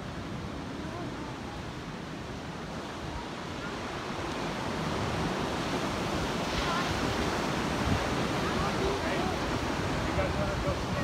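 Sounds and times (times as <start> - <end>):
surf washing up a beach: 0.0 - 11.0
wind buffeting the microphone: 0.0 - 11.0.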